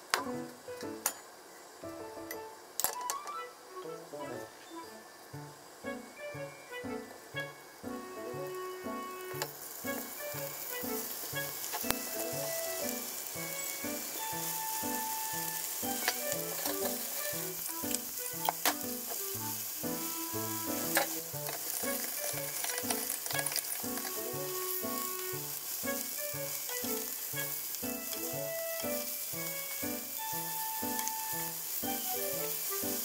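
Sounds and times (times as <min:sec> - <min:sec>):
patties sizzling in frying pan: 0:00.0 - 0:33.0.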